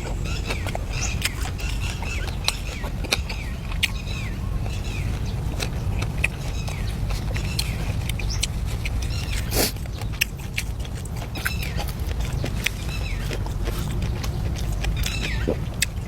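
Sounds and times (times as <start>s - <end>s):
lapwing calling: 0.0s - 9.7s, 11.3s - 16.0s.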